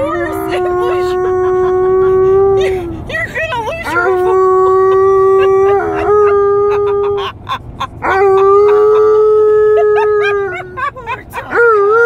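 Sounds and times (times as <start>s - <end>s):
dog howling: 0.0s - 2.6s, 3.8s - 7.3s, 8.0s - 12.0s.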